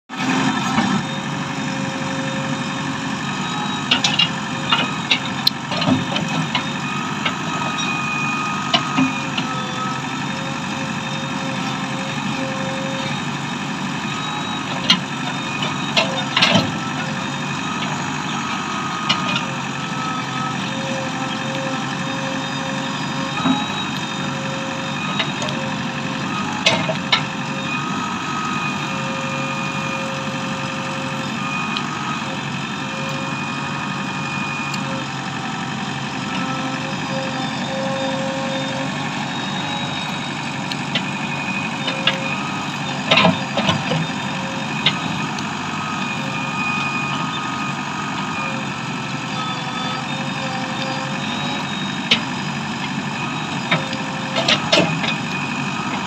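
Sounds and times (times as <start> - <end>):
diesel engine running: 0.1 - 56.0.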